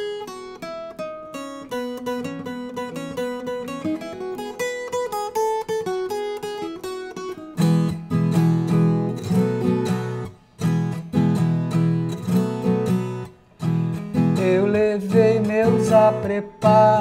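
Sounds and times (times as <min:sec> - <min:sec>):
strummed folk guitar chords: 0:00.0 - 0:17.0.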